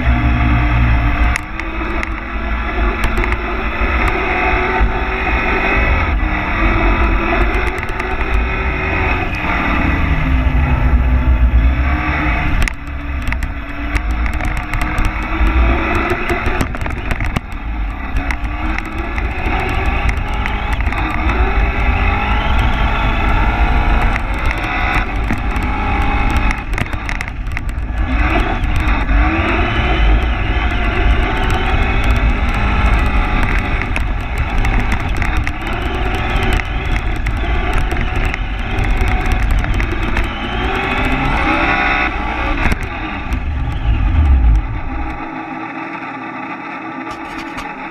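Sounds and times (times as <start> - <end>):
electric motor whining: 0.0 - 47.9
tyres rumbling on snow: 0.0 - 47.9.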